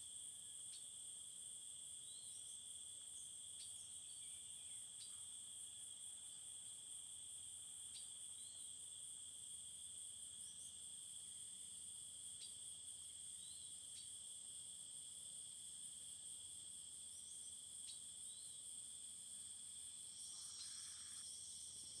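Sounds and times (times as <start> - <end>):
insect chorus: 0.0 - 22.0.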